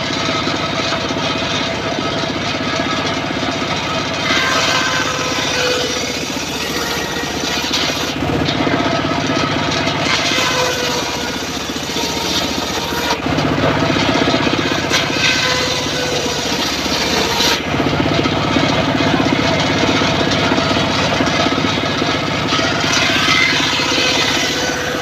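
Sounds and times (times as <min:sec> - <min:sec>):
saw bench engine pulsing: 0:00.0 - 0:25.0
saw blade rasping through wood: 0:00.0 - 0:25.0.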